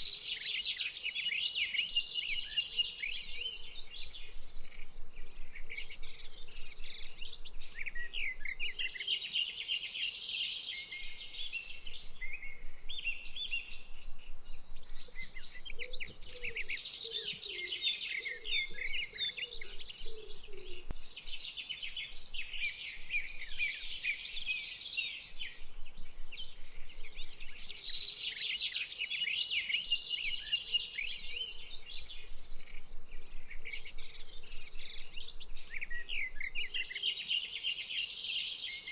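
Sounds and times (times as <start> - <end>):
small birds chirping chorus: 0.0 - 38.9.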